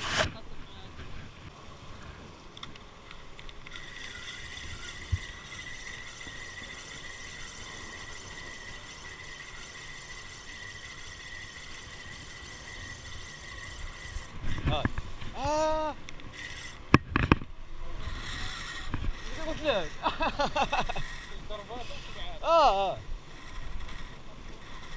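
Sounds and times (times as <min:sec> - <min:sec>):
fishing reel gears whining: 0:03.1 - 0:17.3, 0:17.9 - 0:24.9.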